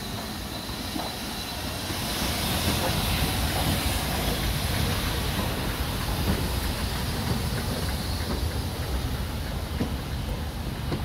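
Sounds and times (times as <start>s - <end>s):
steam hissing: 0.0s - 11.0s
steam locomotive rumble: 0.0s - 11.0s.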